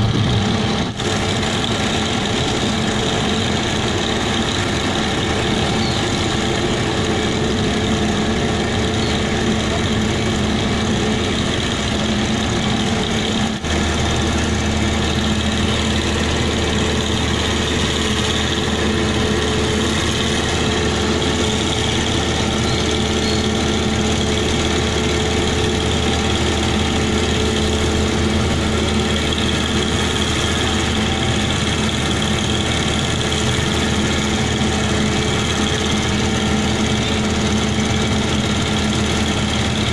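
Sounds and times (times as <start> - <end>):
heavy engine idling: 0.0 - 39.9.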